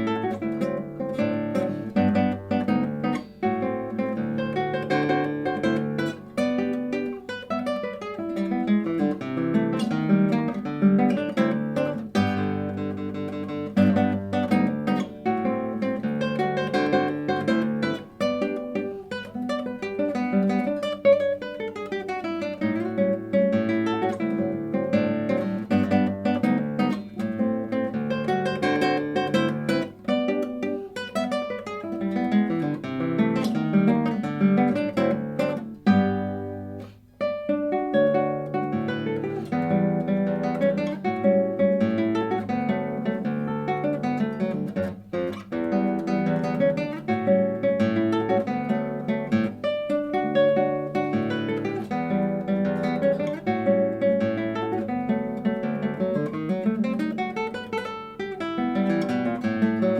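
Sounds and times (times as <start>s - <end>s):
classical guitar playing: 0.0s - 59.9s.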